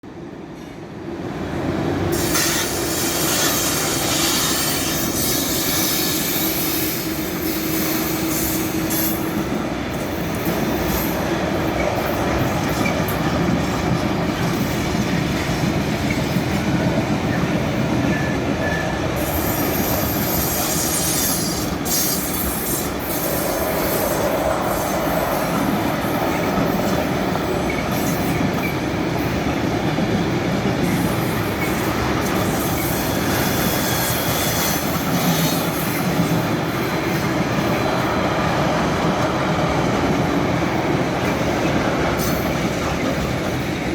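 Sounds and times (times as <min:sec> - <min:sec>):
freight train rolling over rails: 0:00.0 - 0:43.9
train wheel squeal: 0:02.1 - 0:15.0, 0:16.0 - 0:29.6, 0:30.7 - 0:43.9.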